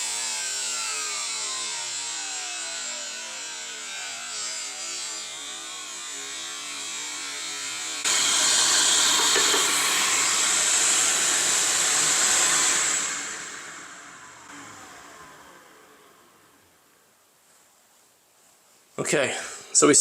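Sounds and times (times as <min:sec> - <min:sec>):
dust extractor running: 0:00.0 - 0:17.0
miter saw motor whining: 0:00.0 - 0:17.0.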